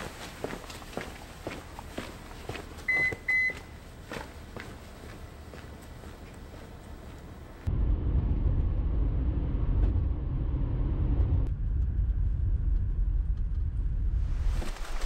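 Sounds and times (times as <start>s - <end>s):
car road and engine rumble: 1.8s - 14.7s.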